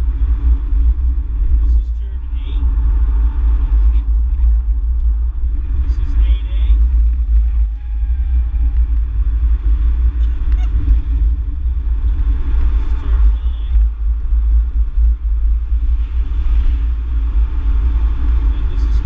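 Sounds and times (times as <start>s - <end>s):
race car engine rumble: 0.0s - 19.0s
road noise: 0.0s - 19.0s.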